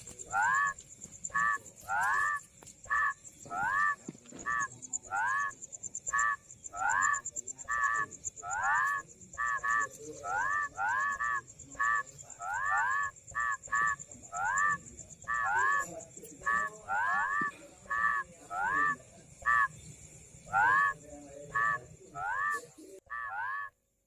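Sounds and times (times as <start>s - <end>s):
frogs calling: 0.0s - 23.8s.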